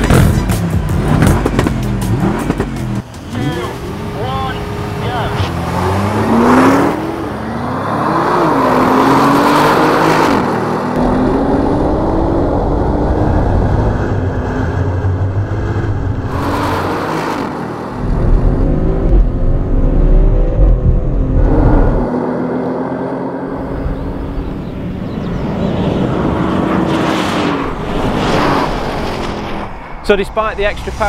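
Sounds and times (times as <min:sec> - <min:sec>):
car engine accelerating hard: 0:00.0 - 0:29.4.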